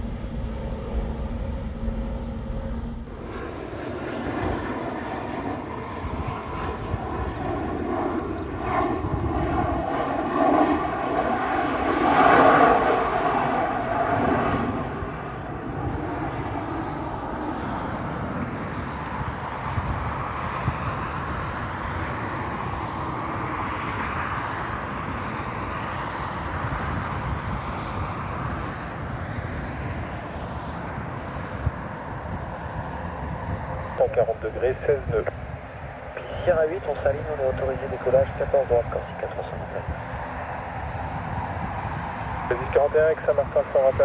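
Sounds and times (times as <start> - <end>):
distant jet engine noise: 0.0 - 44.0
jet passing close: 0.0 - 44.0.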